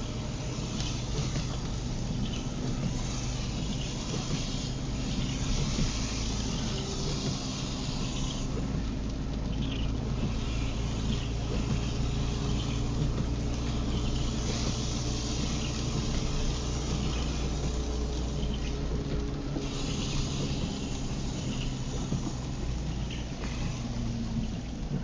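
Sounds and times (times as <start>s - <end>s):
car engine and road drone: 0.0s - 25.0s
tyres hissing on wet road: 0.0s - 25.0s.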